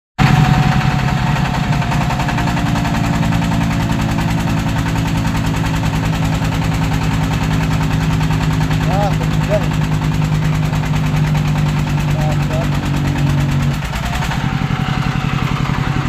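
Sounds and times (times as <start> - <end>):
diesel engine knocking: 0.2 - 16.0.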